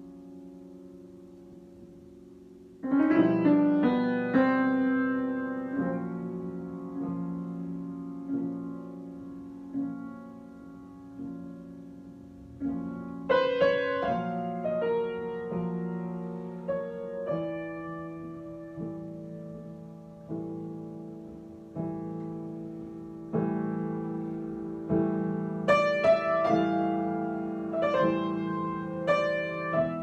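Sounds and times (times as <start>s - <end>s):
solo piano chords: 0.0s - 30.0s.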